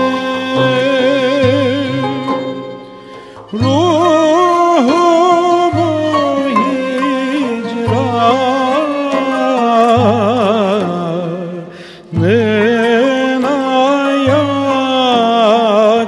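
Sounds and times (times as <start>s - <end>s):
man singing slow melody: 0.0s - 2.8s, 3.4s - 16.0s.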